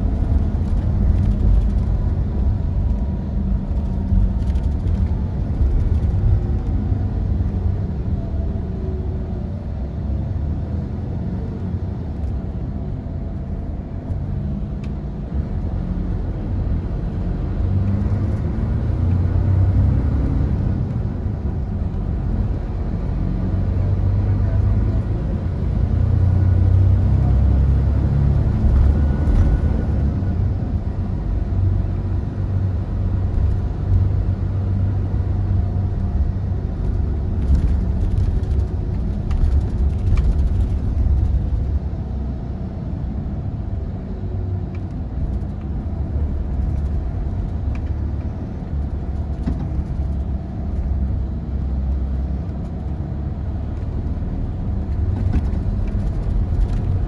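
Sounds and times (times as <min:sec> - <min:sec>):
coach engine and road noise: 0:00.0 - 0:57.0.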